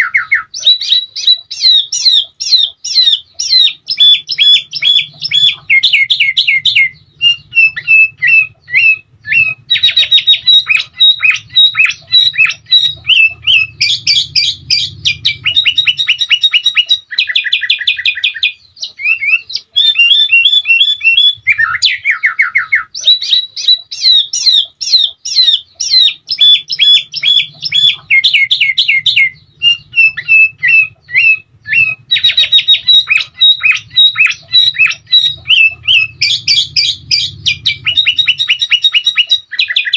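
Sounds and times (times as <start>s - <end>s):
faint low hum: 0.0s - 39.5s
birds chirping and trilling: 0.0s - 39.9s.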